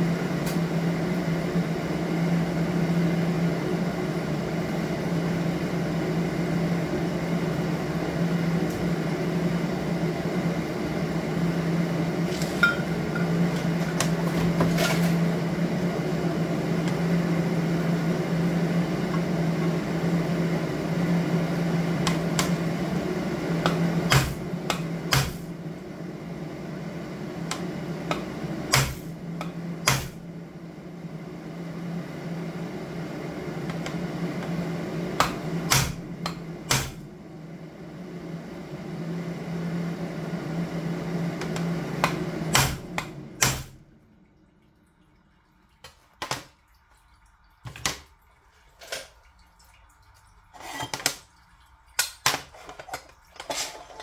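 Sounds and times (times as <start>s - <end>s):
electrical machine hum: 0.0s - 54.0s.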